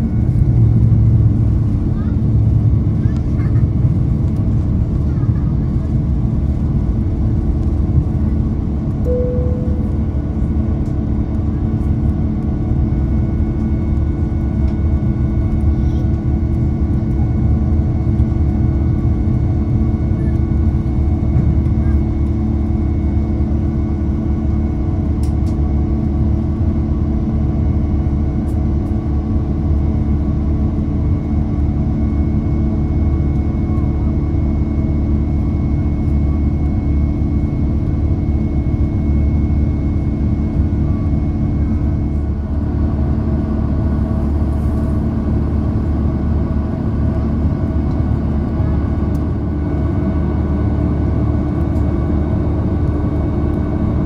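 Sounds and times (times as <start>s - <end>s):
aircraft engines rumbling: 0.0s - 54.0s
constant hums: 0.0s - 54.0s.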